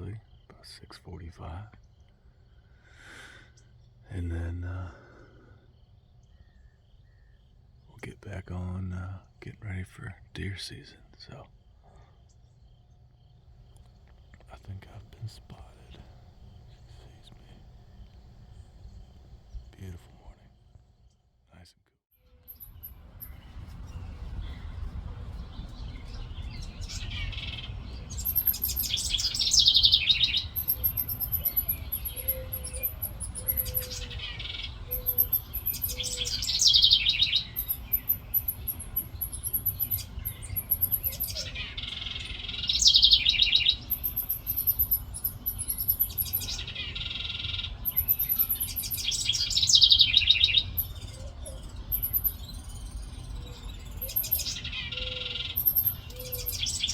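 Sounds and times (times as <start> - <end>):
songbird singing trills: 0.0 - 56.9
low background rumble: 3.5 - 21.7, 22.4 - 56.9.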